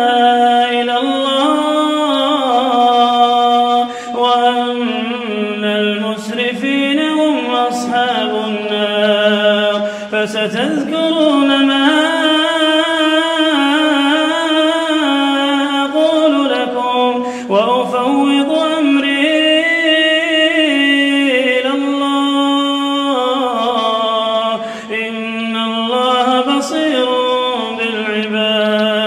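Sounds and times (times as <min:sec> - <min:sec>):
man chanting melodically: 0:00.0 - 0:29.0.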